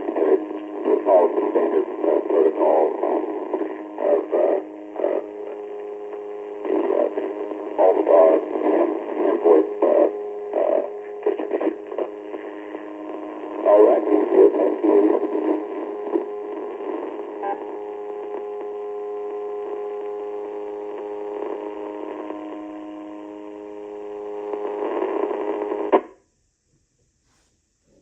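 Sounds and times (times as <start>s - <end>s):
radio hiss: 0.0s - 26.0s
radio buzz of humming tones: 0.0s - 26.2s.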